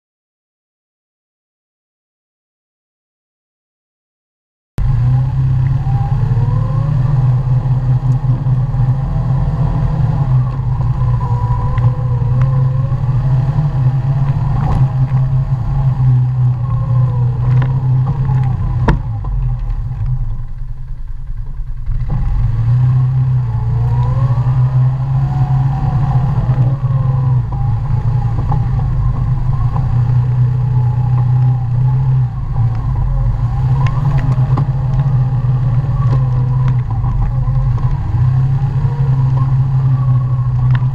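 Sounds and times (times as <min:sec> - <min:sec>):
atv engine revving: 0:04.8 - 0:40.9.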